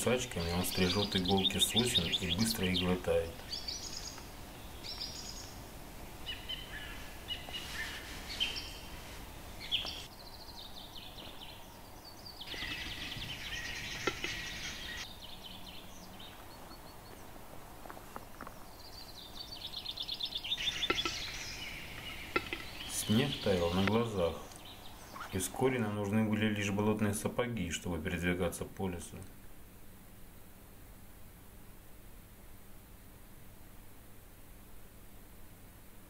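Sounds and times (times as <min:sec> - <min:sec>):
forest birds chattering and trilling: 0:00.0 - 0:29.0
faint steady hiss: 0:00.0 - 0:36.0.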